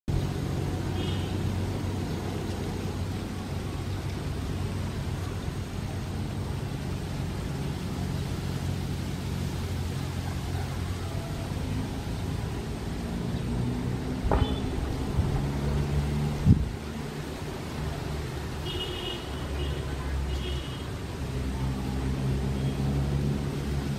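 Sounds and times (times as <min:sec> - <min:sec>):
low engine rumble: 0:00.1 - 0:23.9.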